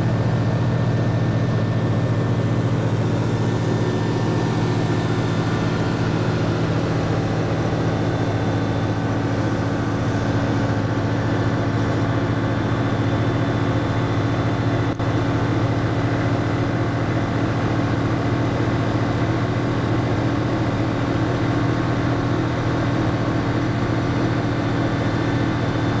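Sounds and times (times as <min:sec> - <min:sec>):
aircraft engine and propeller: 0:00.0 - 0:26.0.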